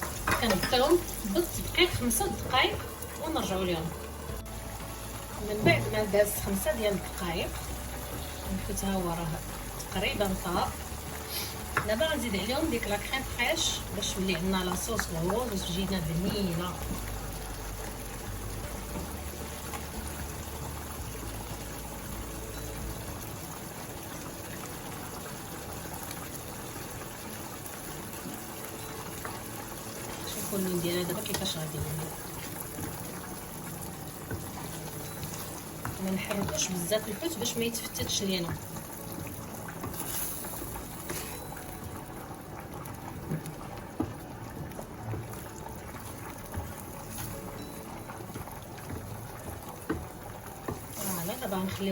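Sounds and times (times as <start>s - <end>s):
sauce simmering hiss: 0.0s - 51.9s.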